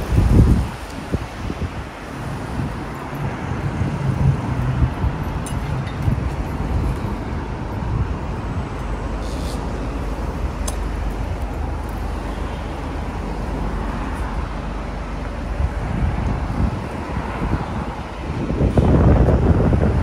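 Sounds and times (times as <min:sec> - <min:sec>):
passing cars on busy road: 0:00.0 - 0:20.0.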